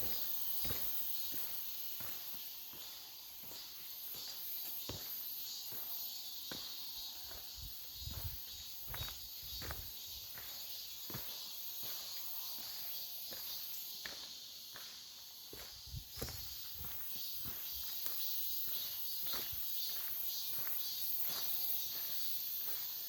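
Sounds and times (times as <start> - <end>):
footsteps on forest trail: 0.0 - 23.0
insects chirring: 0.0 - 23.0.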